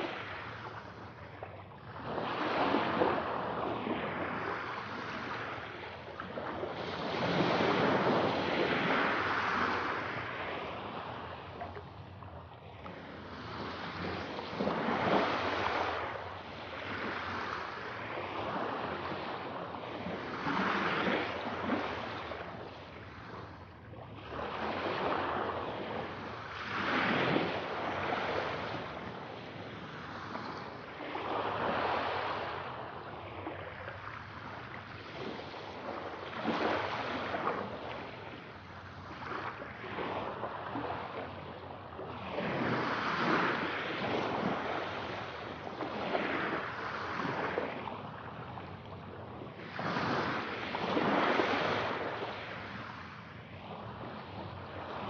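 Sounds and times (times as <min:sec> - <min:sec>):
sea waves breaking ashore: 0:00.0 - 0:55.0.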